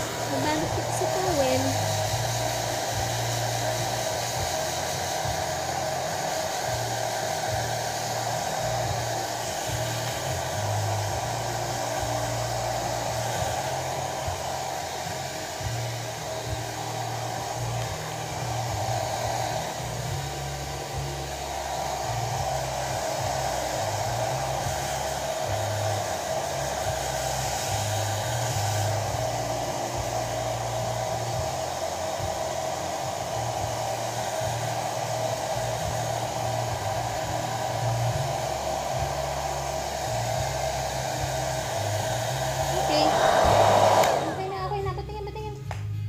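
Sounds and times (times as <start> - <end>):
hair dryer running: 0.0 - 46.0.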